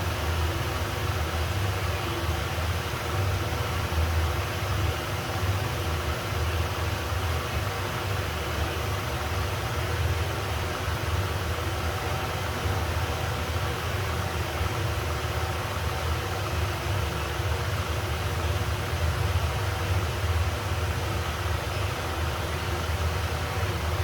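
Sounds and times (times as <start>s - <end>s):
exhaust fan running: 0.0s - 24.0s.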